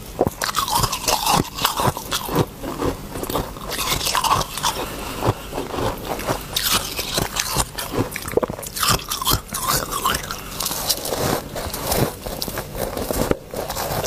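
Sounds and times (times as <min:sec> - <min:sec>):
chewing ice crunches: 0:00.0 - 0:14.0.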